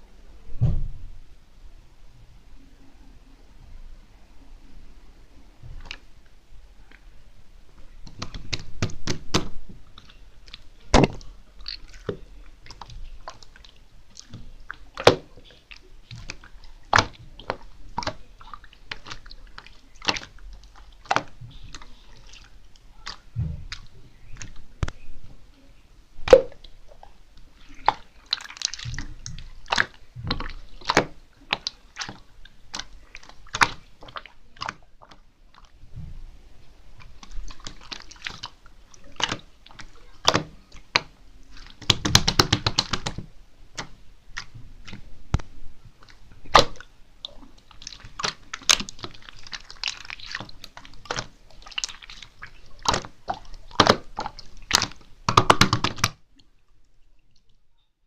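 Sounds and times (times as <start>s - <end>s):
wet squishy sounds: 5.5s - 7.1s, 7.7s - 25.5s, 26.2s - 57.8s.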